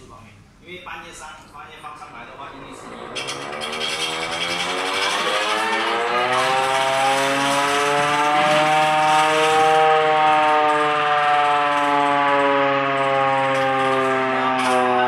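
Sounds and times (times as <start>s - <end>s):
air raid siren wailing: 1.7s - 15.0s.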